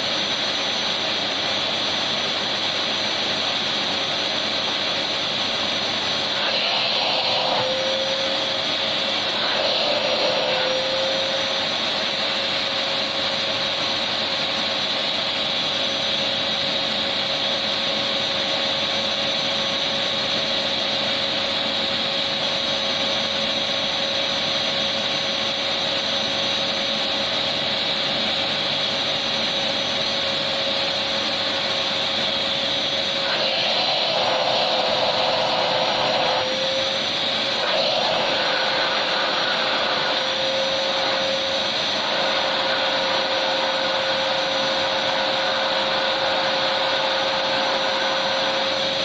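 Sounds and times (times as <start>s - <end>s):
vacuum cleaner running: 0.0s - 49.0s.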